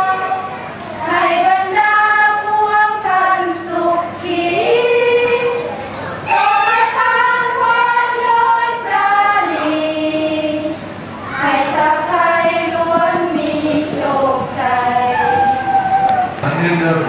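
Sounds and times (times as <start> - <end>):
women singing unaccompanied: 0.0 - 5.7, 6.3 - 16.3.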